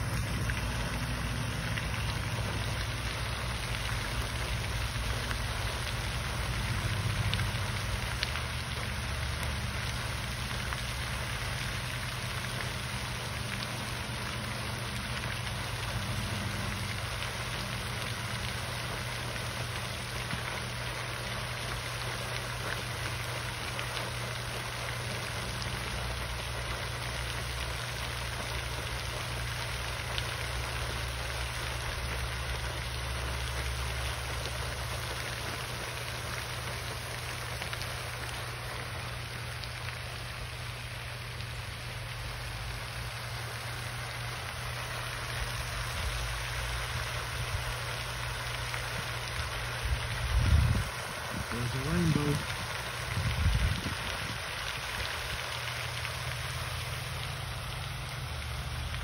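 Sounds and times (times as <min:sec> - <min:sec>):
fountain spray hissing on water: 0:00.0 - 0:59.0
steady low hum: 0:00.0 - 0:59.0.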